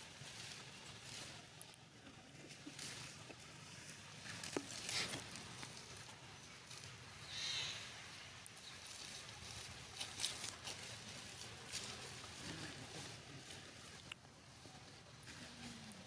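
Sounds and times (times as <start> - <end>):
faint rustling and patter: 0.0 - 7.3, 8.0 - 16.0.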